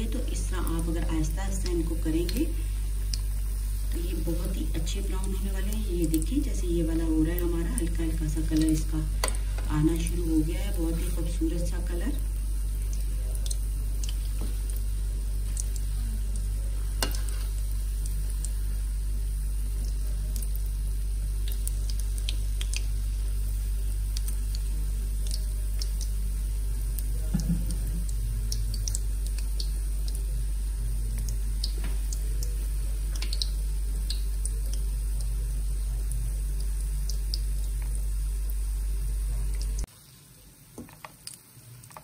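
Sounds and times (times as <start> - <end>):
low hum: 0.0 - 39.9
food sizzling in hot oil: 0.0 - 42.0
small crackles of frying: 0.0 - 42.0.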